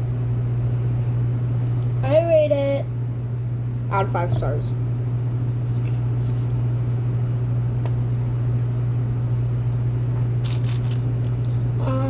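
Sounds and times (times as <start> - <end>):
loud low hum: 0.0 - 12.0.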